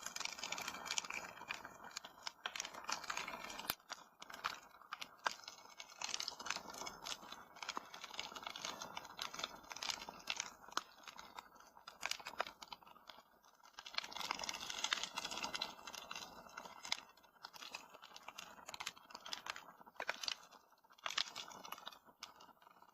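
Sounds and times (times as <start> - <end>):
wood fire pops and snaps: 0.1 - 13.1, 13.7 - 22.9.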